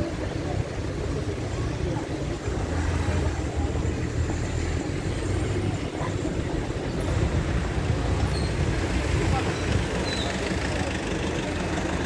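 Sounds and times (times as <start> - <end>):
crowd of passers-by: 0.0 - 12.0
traffic engines rumbling: 0.0 - 12.0.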